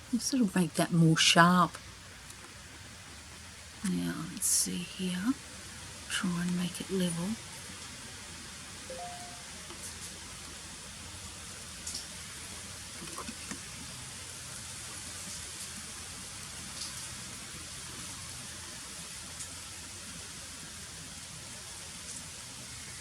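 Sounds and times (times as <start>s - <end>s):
wind through foliage: 0.0s - 23.0s.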